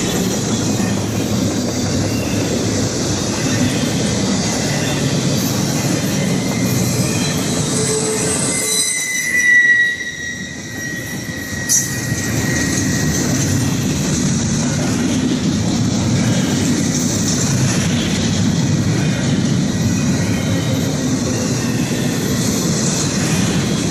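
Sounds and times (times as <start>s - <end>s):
freight train wheels rumbling on rail: 0.0s - 23.9s
train wheels squealing: 0.0s - 23.9s.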